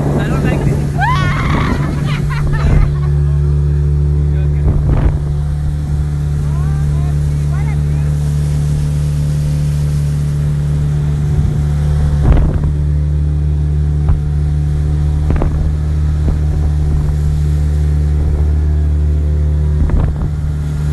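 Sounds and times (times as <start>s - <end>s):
boat engine droning: 0.0s - 20.9s.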